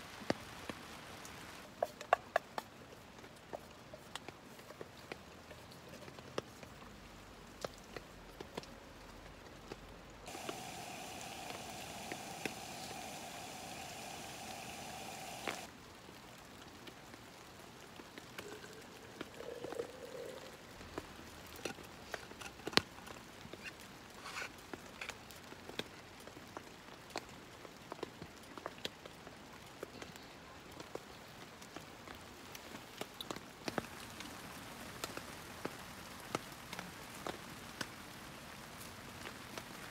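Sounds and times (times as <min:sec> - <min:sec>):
rain on tent fabric: 0:00.0 - 0:39.9.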